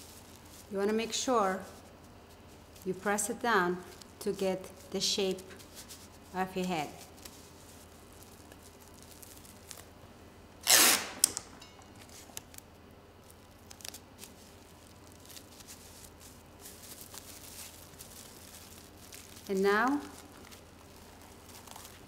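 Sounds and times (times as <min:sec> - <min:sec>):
cling film and tape crinkling: 0:00.0 - 0:10.0, 0:10.6 - 0:22.0.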